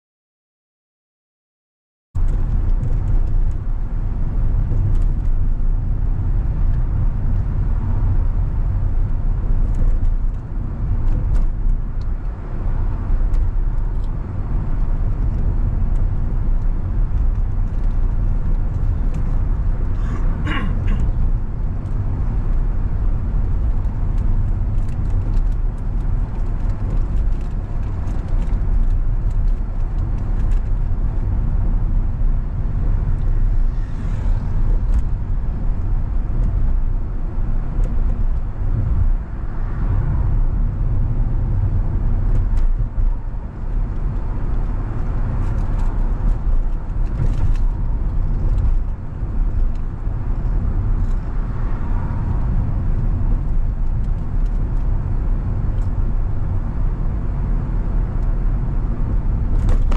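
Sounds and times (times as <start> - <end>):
car engine and tyre rumble: 2.2 - 59.9.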